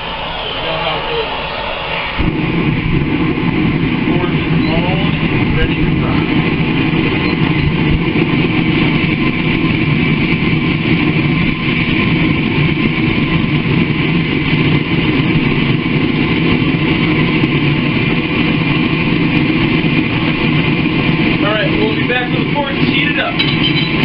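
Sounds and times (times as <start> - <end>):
forge roaring: 0.0 - 24.0.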